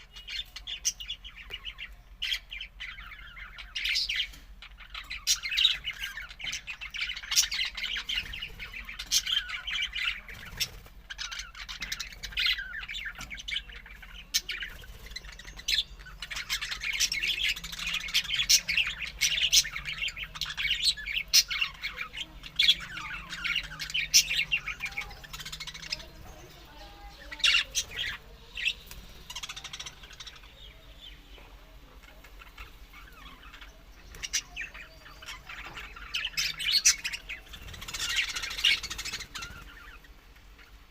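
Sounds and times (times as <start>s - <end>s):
bird chirps and squawks: 0.0s - 31.2s, 32.0s - 40.9s
budgerigars chattering and warbling: 0.0s - 40.9s.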